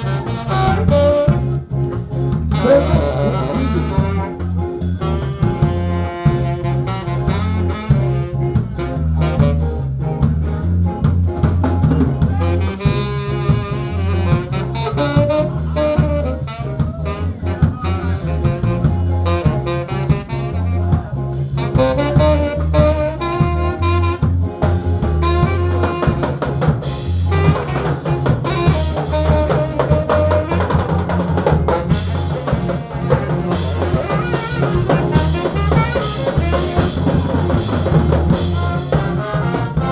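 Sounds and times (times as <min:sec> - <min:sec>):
saxophone solo: 0:00.0 - 0:01.8, 0:02.4 - 0:10.0, 0:12.2 - 0:39.9
ska band playing: 0:00.0 - 0:39.9.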